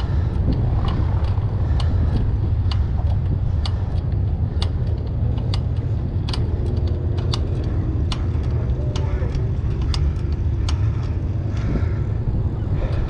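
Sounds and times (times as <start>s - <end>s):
bike rack rattling: 0.0s - 13.0s
wind rumbling on microphone: 0.0s - 13.0s.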